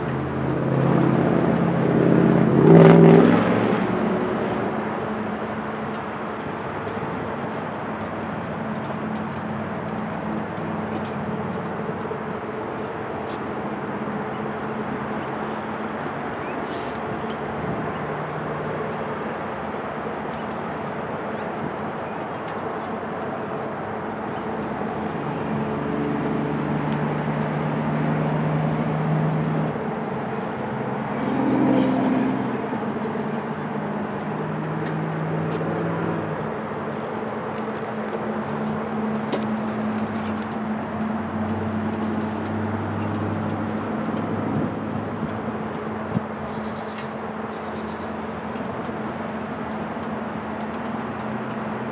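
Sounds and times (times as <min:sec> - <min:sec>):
motor traffic hum: 0:00.0 - 0:51.9.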